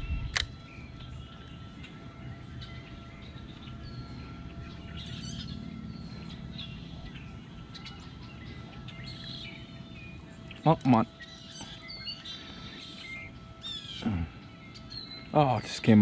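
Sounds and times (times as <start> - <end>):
birds chirping: 0.0 - 16.0
faint steady hum: 0.0 - 16.0
low steady rumble: 0.0 - 16.0.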